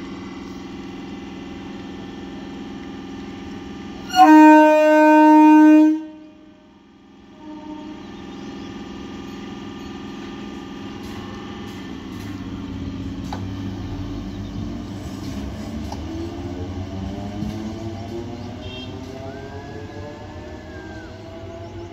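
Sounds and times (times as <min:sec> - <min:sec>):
train motor whine: 0:00.0 - 0:21.9
train rumbling: 0:00.0 - 0:21.9.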